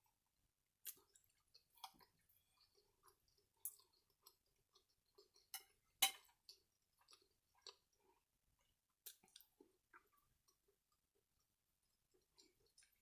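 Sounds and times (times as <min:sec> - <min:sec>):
chewing with lip smacks: 0:00.8 - 0:11.1, 0:11.8 - 0:13.0.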